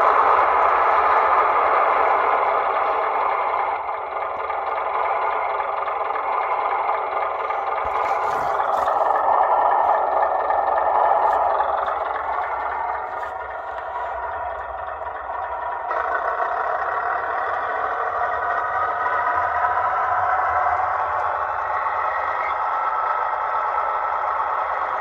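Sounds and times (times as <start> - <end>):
model diesel engine sound from speaker: 0.0 - 25.0.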